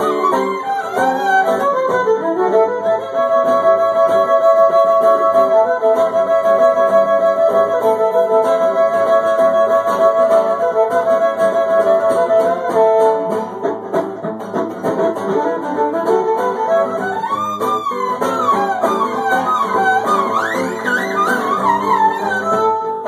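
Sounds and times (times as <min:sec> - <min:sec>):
acoustic guitar strumming: 0:00.0 - 0:23.0
fiddle playing: 0:00.0 - 0:23.0.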